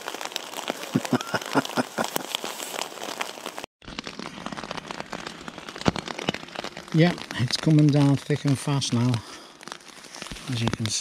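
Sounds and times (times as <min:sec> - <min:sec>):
heavy rain on a tarp: 0:00.0 - 0:11.0.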